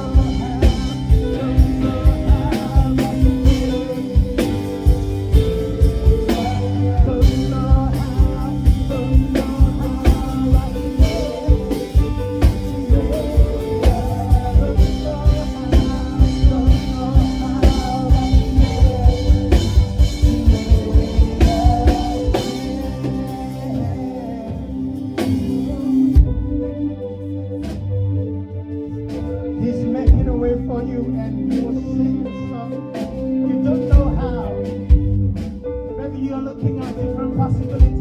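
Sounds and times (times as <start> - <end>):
drum kit beat: 0.0 - 26.8, 30.1 - 30.8, 33.0 - 35.8, 36.6 - 38.0
band playing: 0.0 - 38.0
worship song singing: 0.0 - 38.0.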